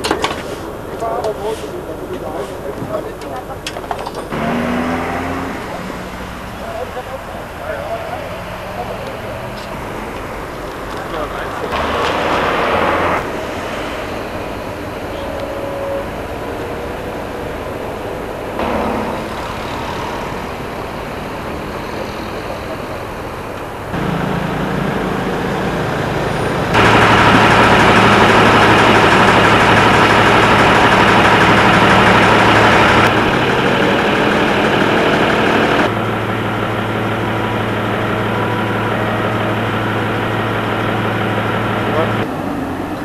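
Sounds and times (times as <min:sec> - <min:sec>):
diesel engine idling: 0:00.6 - 0:43.0.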